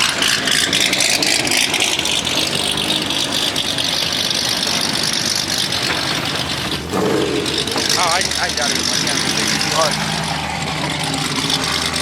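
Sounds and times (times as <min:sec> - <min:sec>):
car engine running steadily: 0:00.0 - 0:12.0
dense background noise: 0:00.0 - 0:12.0.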